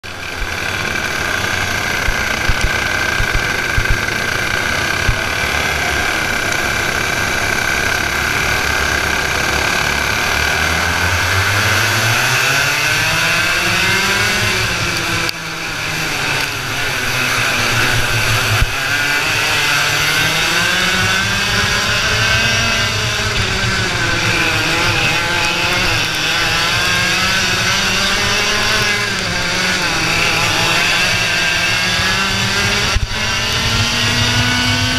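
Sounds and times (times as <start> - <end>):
kart engine revving: 0.0 - 34.9.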